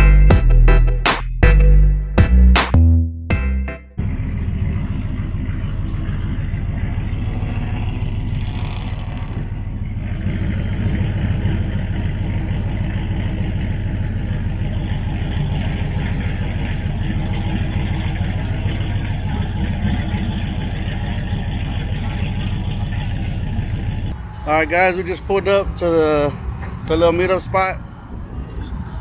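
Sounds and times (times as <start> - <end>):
truck engine running: 0.0 - 28.2
road noise: 4.0 - 29.0.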